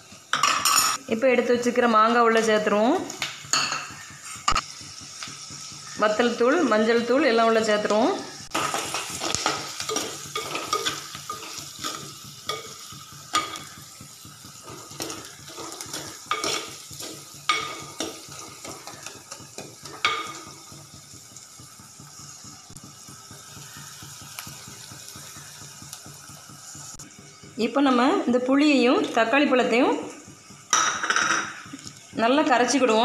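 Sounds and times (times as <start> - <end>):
food sizzling in oil: 0.0 - 33.0.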